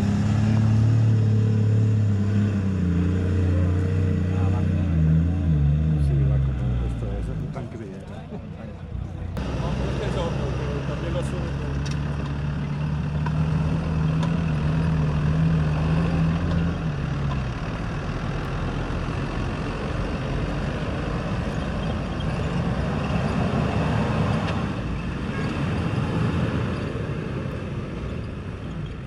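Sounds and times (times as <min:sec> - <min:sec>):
off-road vehicle engine: 0:00.0 - 0:29.0
rough rumble of driving: 0:00.0 - 0:29.0.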